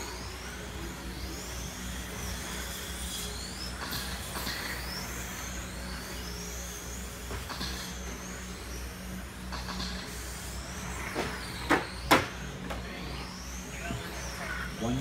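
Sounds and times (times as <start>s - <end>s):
steady low hum: 0.0s - 15.0s
toy car electric motors whining: 0.0s - 15.0s.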